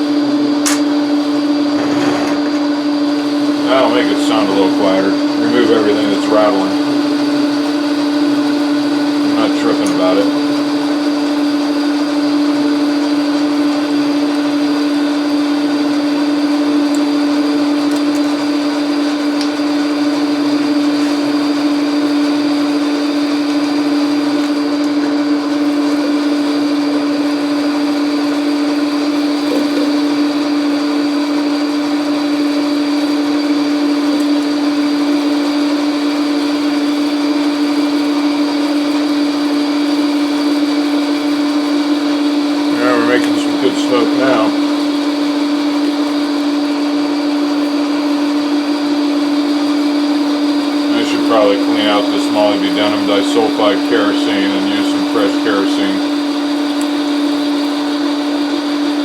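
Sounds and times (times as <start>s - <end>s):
metal lathe droning hum: 0.0s - 59.0s.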